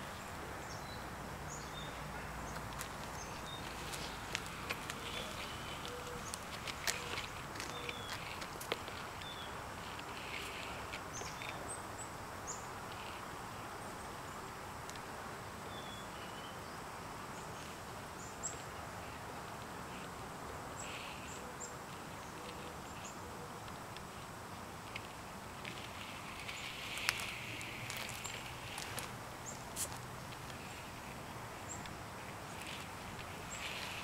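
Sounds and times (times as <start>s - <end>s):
background hiss: 0.0s - 34.0s.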